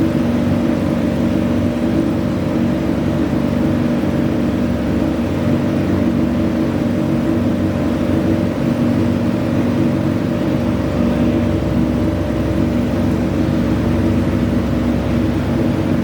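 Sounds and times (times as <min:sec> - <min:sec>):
tractor engine running fast: 0:00.0 - 0:16.0.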